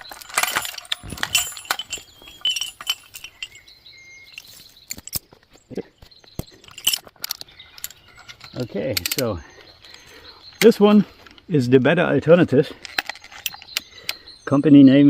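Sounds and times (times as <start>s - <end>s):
metal chain clinking: 0.0s - 5.4s, 6.4s - 11.6s, 12.3s - 14.2s.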